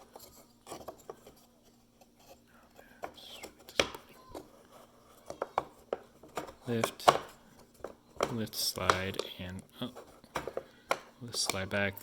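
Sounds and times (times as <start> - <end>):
wooden pieces clicking and tapping: 0.0 - 12.0.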